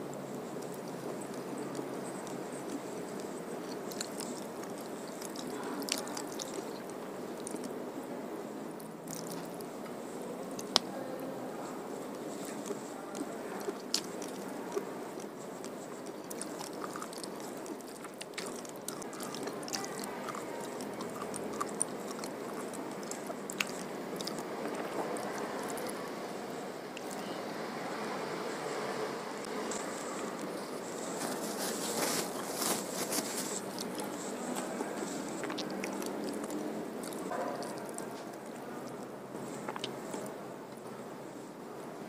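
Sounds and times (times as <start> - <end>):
chewing and wet mouth sounds: 0.0 - 8.1, 8.7 - 27.4, 29.4 - 41.0.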